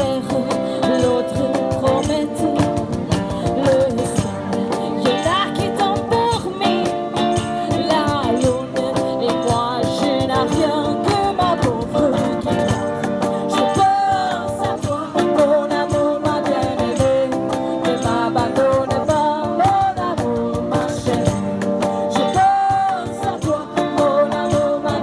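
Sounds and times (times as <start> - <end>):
cajon beat: 0.0 - 25.0
electric and acoustic guitars: 0.0 - 25.0
woman singing: 0.0 - 25.0.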